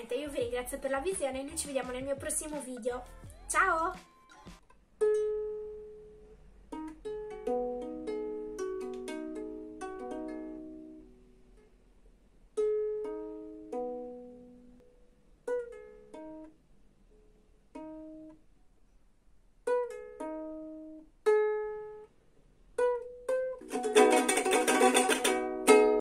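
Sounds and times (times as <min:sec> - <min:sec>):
ukulele played slowly: 0:03.1 - 0:18.5, 0:19.6 - 0:26.0.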